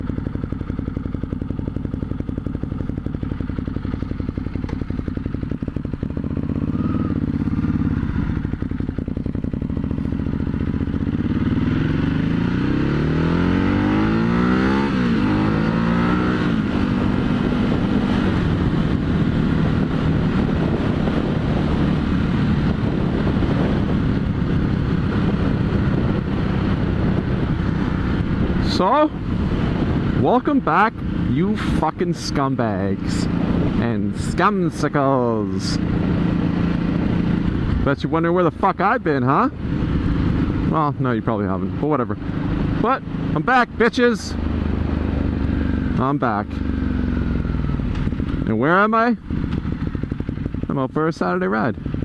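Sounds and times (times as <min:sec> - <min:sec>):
motorcycle engine: 0:00.0 - 0:52.0.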